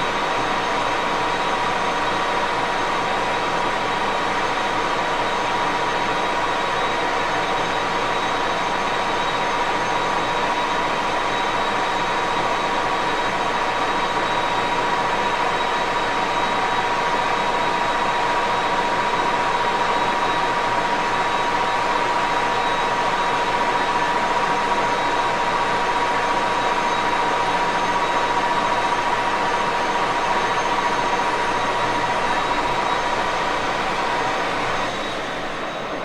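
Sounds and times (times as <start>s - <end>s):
lathe running with whine: 0.1s - 36.0s.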